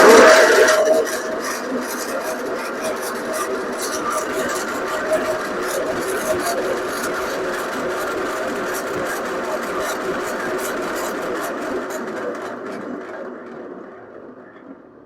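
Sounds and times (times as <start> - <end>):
machine motor humming: 0.0 - 12.4.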